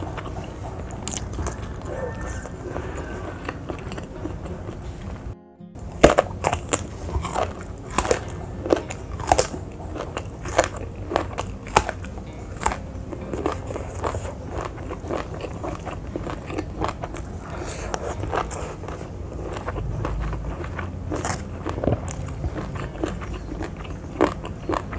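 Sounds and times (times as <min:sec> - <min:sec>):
crunchy vegetable chewing: 0:00.0 - 0:24.9
low steady hum: 0:00.0 - 0:24.9.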